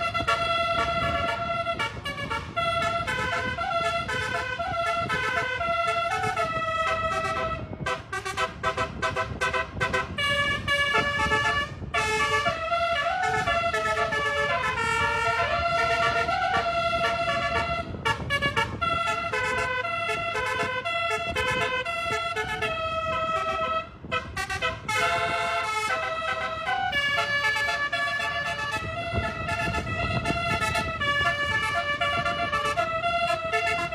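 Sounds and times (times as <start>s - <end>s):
bus musical air horn tune: 0.0s - 33.9s.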